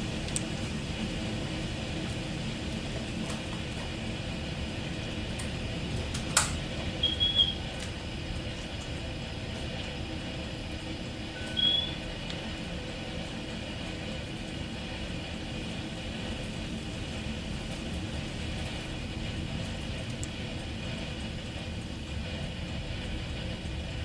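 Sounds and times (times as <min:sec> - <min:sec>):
heavy rainstorm rumbling: 0:00.0 - 0:24.0.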